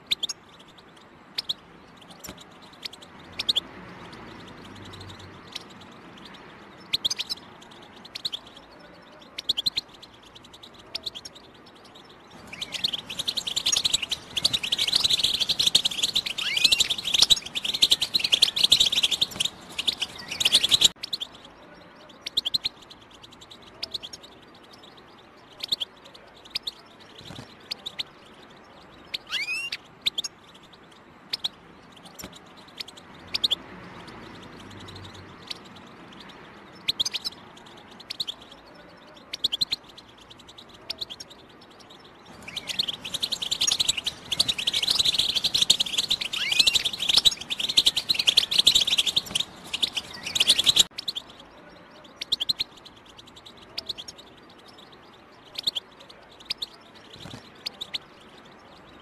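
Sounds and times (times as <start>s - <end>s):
goldfinch chirping calls: 0.0s - 59.0s
goldfinch twittering song: 0.0s - 59.0s.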